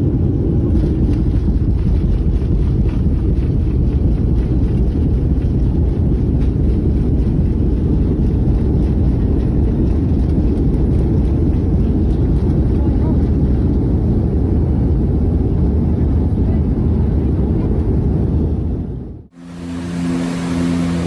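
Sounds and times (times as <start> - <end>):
jet engines rumbling: 0.0 - 21.0
wind buffeting microphone: 0.0 - 21.0.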